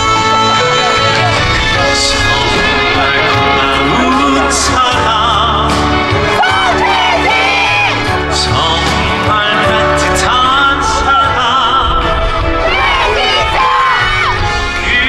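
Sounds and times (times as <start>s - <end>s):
backing music with bass: 0.0s - 15.0s
person singing amplified: 0.0s - 15.0s.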